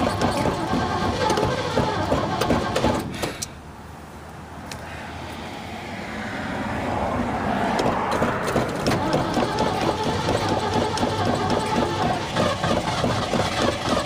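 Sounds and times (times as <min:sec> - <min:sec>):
truck engine revving: 0:00.0 - 0:03.5, 0:06.2 - 0:14.0.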